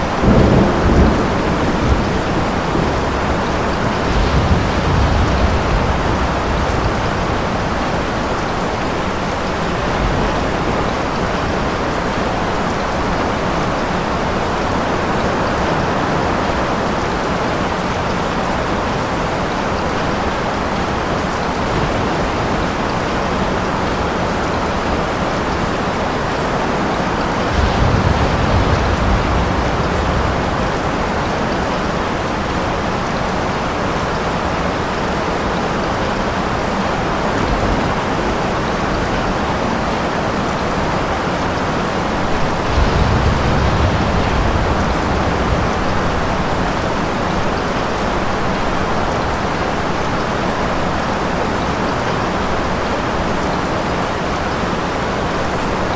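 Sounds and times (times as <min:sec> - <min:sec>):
distant thunder rumbles: 0:00.0 - 0:34.2, 0:37.4 - 0:51.4
heavy rain: 0:00.0 - 0:55.9.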